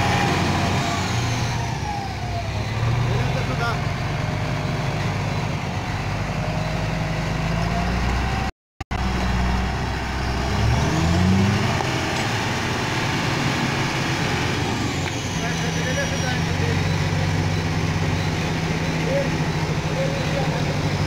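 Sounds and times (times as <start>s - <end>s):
truck diesel engine revving: 0.0s - 21.0s.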